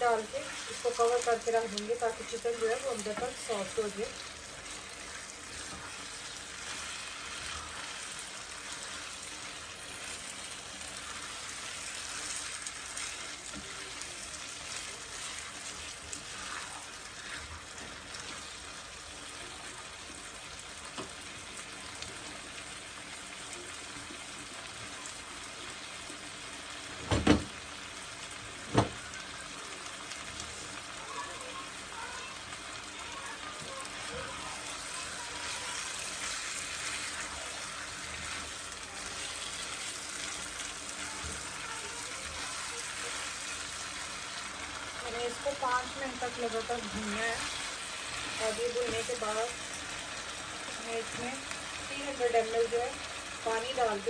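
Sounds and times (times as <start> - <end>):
meat sizzling in a pot: 0.0 - 54.0.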